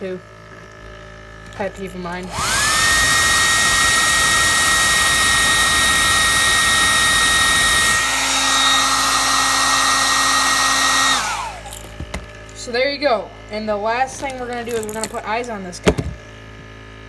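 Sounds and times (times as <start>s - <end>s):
hot-air blower motor whine: 0.0s - 14.4s.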